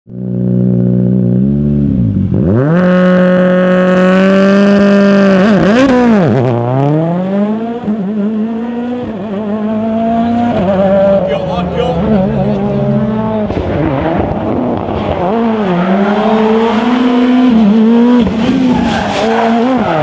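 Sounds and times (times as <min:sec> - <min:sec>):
rally car engine revving: 0:00.1 - 0:20.0.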